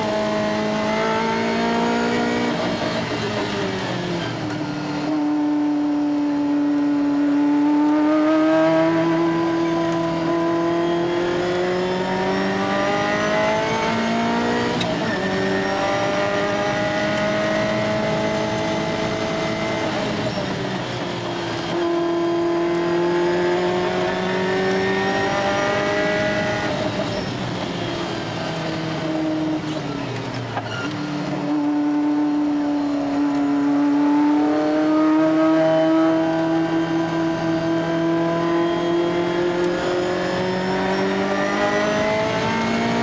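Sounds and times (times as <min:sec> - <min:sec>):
car engine accelerating hard: 0:00.0 - 0:43.0.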